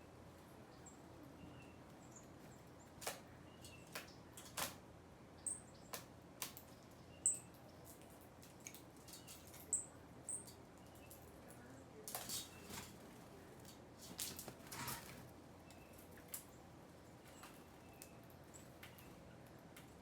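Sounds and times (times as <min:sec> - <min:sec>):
small birds chipping: 0:00.0 - 0:20.0.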